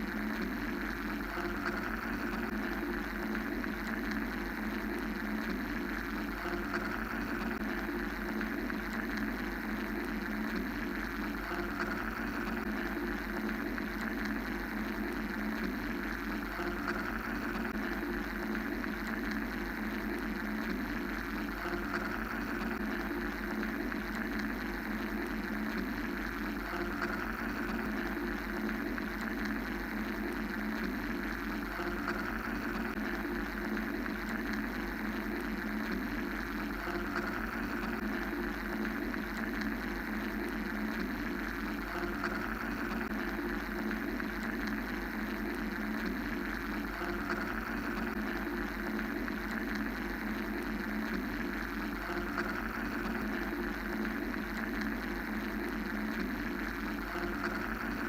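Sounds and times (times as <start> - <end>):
mechanical white noise drone: 0.0 - 58.0.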